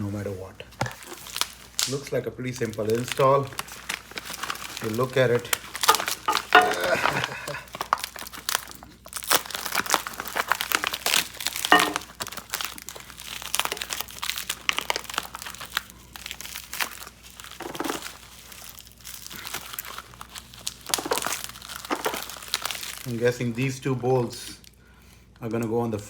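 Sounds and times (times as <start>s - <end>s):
packaging crinkling: 0.6s - 24.8s.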